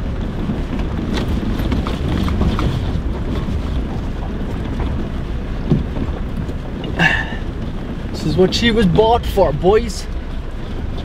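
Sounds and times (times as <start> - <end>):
pickup truck engine rumble: 0.0 - 11.0.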